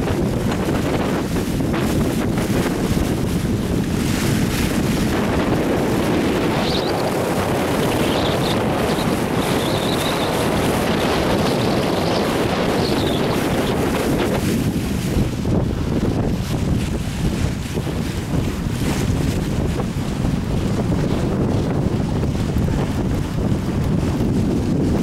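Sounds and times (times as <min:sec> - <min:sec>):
water rushing along a hull: 0:00.0 - 0:25.0
wind buffeting microphone: 0:00.0 - 0:25.0.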